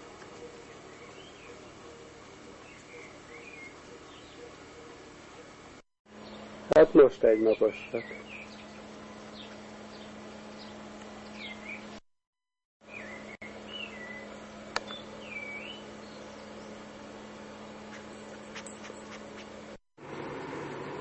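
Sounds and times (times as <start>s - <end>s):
steady low hum: 0.0s - 12.0s, 12.8s - 21.0s.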